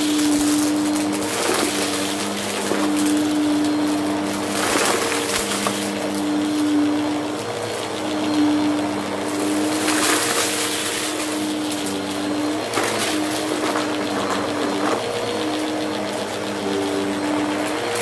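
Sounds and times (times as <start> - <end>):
debris crunching in vacuum: 0.0 - 18.0
vacuum cleaner motor hum: 0.0 - 18.0.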